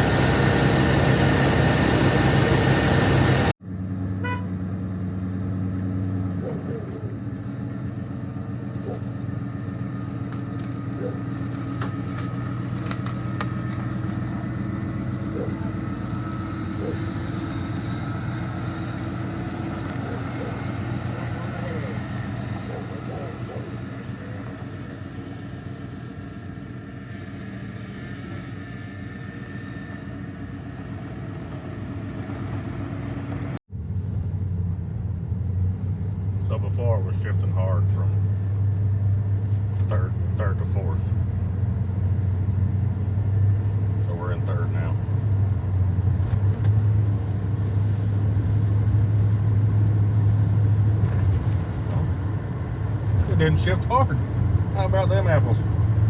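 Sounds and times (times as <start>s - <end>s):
pickup engine hum from inside cab: 0.0s - 56.0s.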